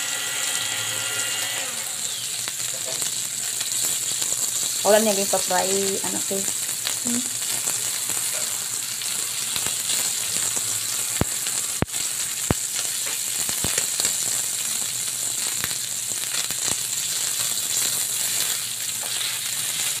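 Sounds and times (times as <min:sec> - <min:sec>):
beef sizzling on a griddle: 0:00.0 - 0:20.0.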